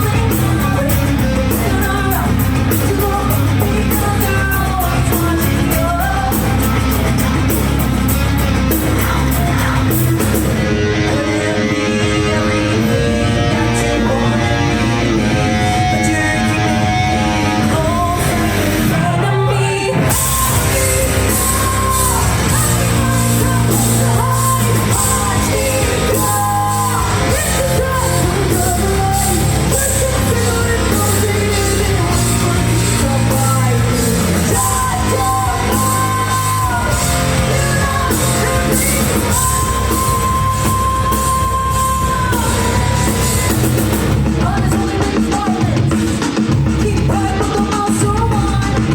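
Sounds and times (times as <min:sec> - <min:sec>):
drums and cymbals: 0:00.0 - 0:48.9
rock band playing live: 0:00.0 - 0:48.9
woman singing lead vocal: 0:00.0 - 0:48.9.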